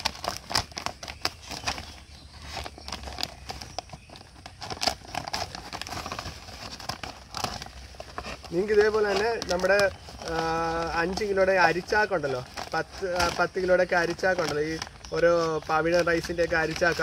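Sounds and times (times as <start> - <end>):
plastic sack crinkling: 0.0 - 17.0.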